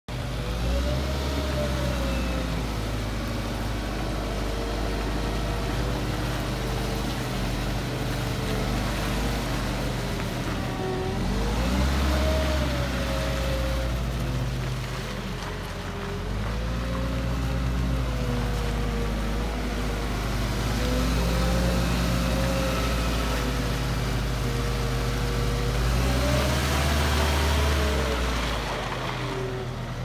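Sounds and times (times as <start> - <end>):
diesel engine running: 0.1 - 30.0.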